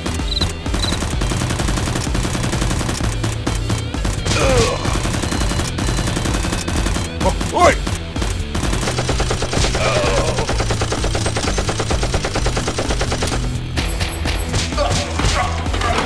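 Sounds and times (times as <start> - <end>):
machine-gun fire sound effects: 0.0 - 15.1
background music: 0.0 - 16.0.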